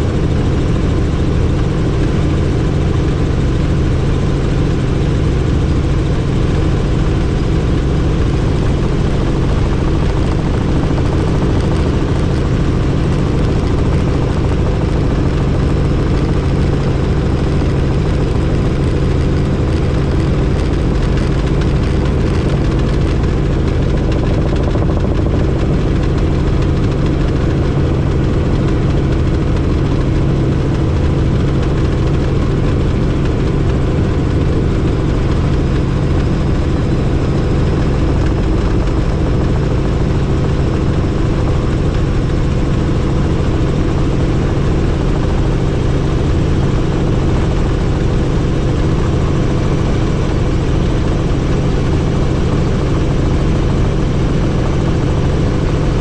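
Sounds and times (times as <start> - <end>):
helicopter engine and rotor noise: 0.0 - 56.0.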